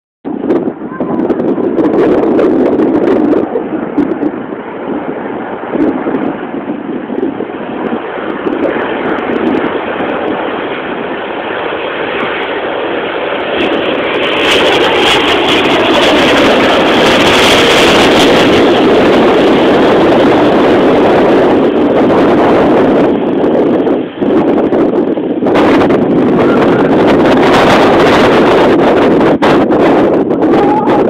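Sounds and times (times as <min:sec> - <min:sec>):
jet airliner passing overhead: 0:00.3 - 0:31.0.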